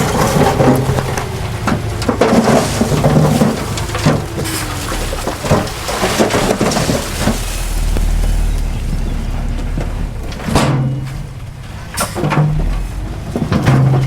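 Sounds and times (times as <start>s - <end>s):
diesel engine rumbling: 0.0s - 14.0s
knocks and clanks: 0.0s - 14.0s
rushing of moving earth: 0.0s - 14.0s.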